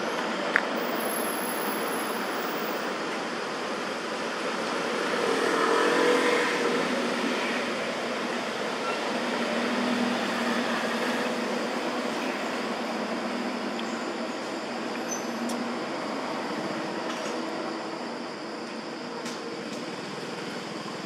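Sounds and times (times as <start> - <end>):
vehicles passing on road: 0.0 - 21.0.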